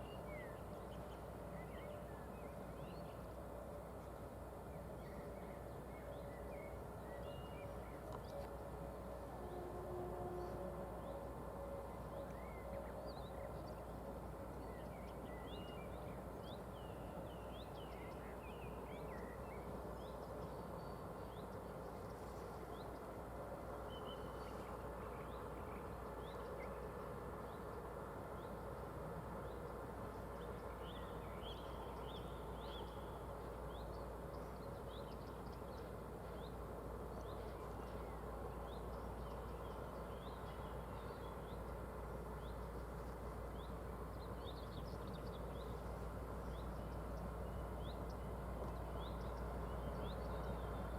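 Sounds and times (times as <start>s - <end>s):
faint low background hum: 0.0s - 50.9s.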